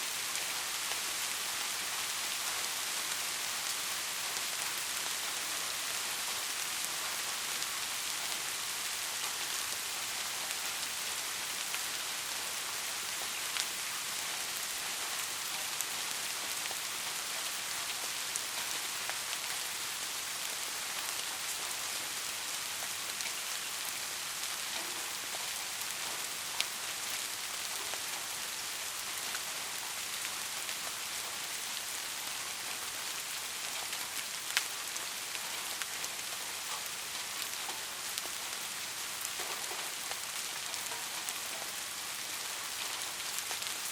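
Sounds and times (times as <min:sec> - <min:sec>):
soft rain hiss: 0:00.0 - 0:43.9.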